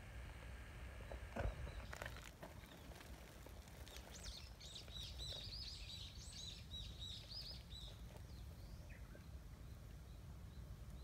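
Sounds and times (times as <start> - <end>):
songbird singing: 1.0 - 11.0.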